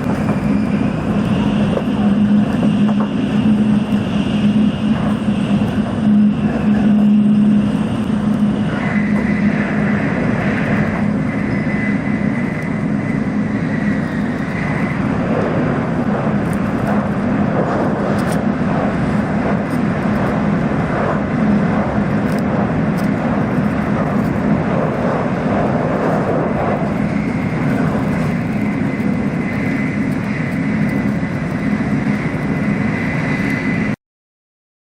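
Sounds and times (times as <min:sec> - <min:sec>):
steady low hum: 0:00.0 - 0:34.0
train carriage rush and rumble: 0:00.0 - 0:34.0.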